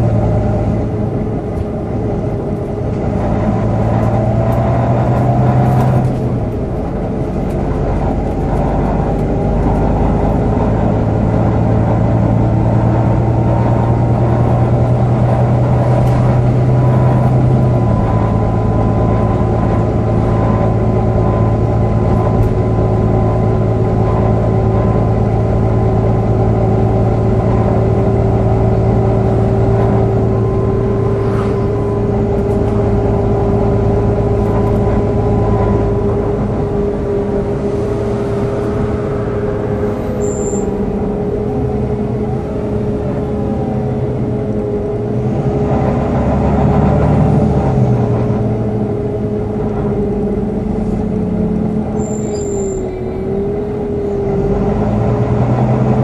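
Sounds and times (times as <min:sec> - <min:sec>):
bus diesel engine running: 0:00.0 - 0:56.0
engine cooling fan whine: 0:00.0 - 0:56.0.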